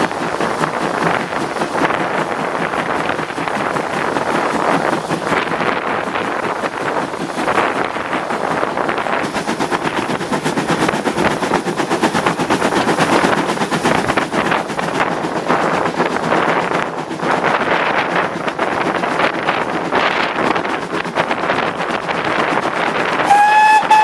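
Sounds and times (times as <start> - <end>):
train clattering: 0.0 - 24.0
wind buffeting microphone: 0.0 - 24.0.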